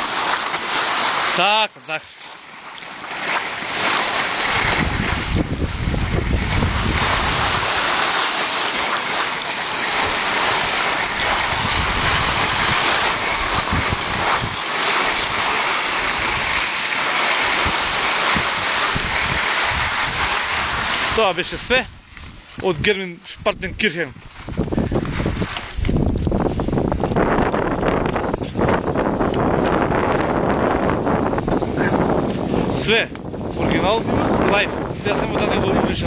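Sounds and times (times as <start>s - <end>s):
skis sliding on snow: 0.0s - 36.0s
wind buffeting microphone: 4.4s - 8.2s, 9.9s - 16.6s, 17.4s - 36.0s.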